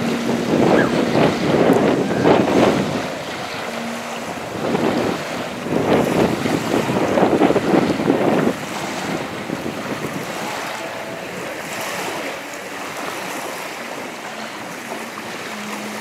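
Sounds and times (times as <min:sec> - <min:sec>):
jet ski engine drone: 0:00.0 - 0:16.0
rush of spray: 0:00.0 - 0:16.0
wind buffeting microphone: 0:00.0 - 0:16.0.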